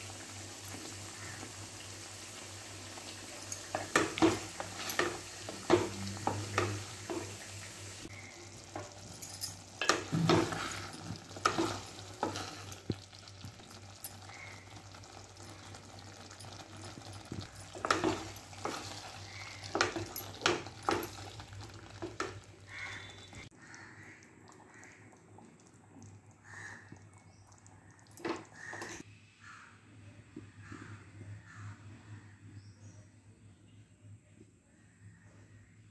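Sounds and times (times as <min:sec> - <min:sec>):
curry sizzling: 0:00.0 - 0:28.9.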